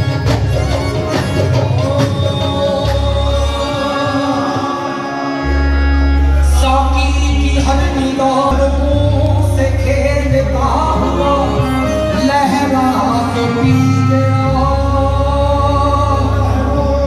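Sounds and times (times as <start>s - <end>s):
harmonium chords: 0.0s - 17.0s
low bass notes: 0.0s - 17.0s
man singing: 0.6s - 17.0s.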